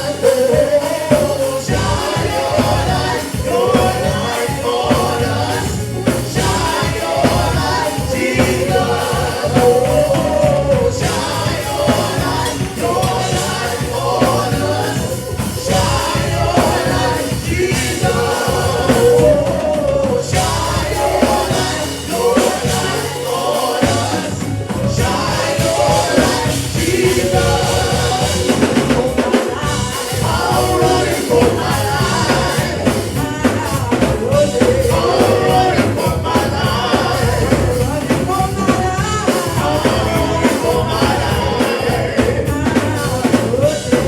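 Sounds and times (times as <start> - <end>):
live gospel music: 0.0 - 44.0.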